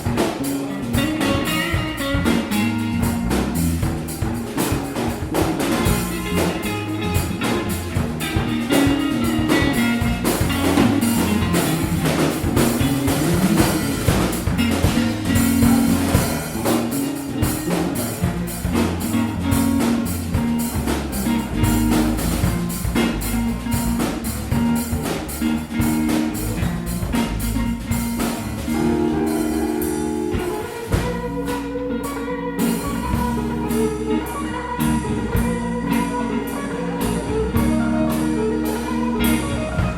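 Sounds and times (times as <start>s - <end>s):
bass line: 0.0s - 39.9s
drum kit: 0.0s - 39.9s
guitar: 0.0s - 39.9s.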